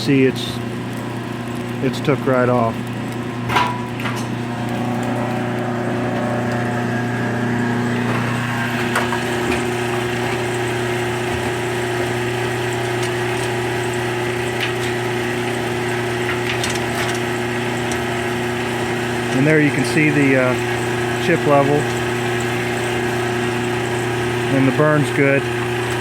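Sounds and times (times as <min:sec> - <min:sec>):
blower fan humming: 0:00.0 - 0:26.0.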